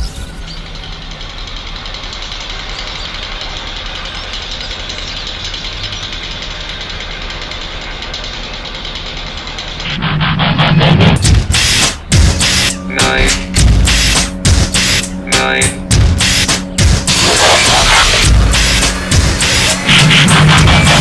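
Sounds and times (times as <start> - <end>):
mechanical rumble with hiss: 0.0 - 21.0.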